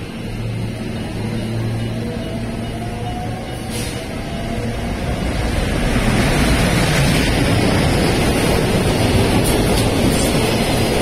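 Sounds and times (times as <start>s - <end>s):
freight train rushing past: 0.0s - 11.0s.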